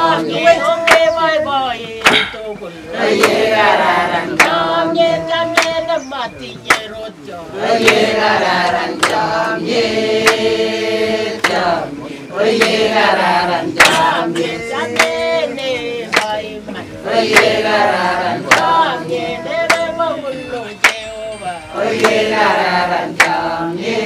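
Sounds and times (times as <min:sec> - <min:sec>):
hand clapping the beat: 0:00.0 - 0:11.9, 0:12.5 - 0:24.0
group singing: 0:00.0 - 0:24.0.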